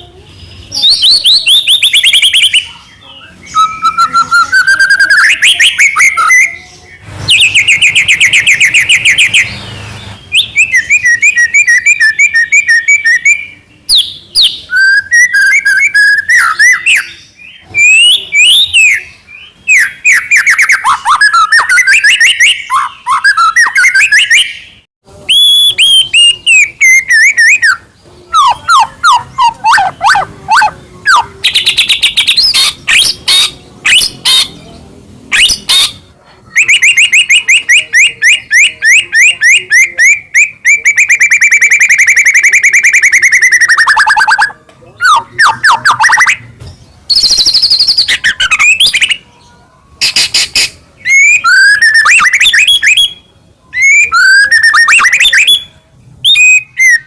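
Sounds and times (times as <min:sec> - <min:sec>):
bird singing varied song: 0:00.0 - 0:57.0.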